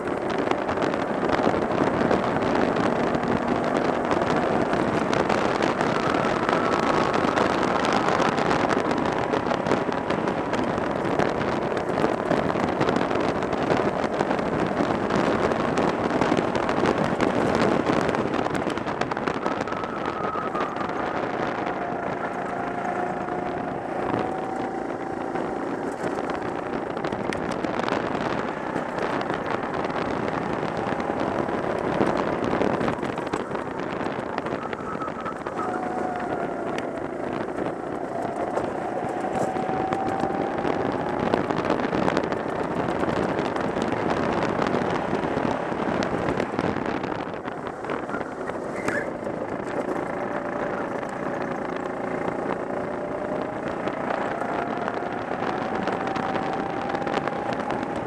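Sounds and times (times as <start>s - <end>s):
go-kart engine under throttle: 0.0s - 58.0s
wind and road noise: 0.0s - 58.0s.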